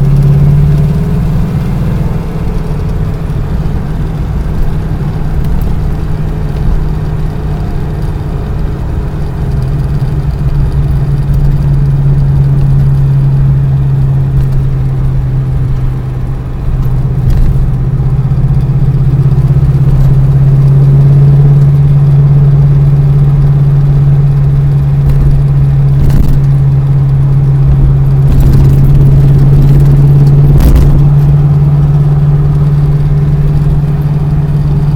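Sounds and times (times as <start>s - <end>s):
motor vehicle droning: 0.0s - 34.9s.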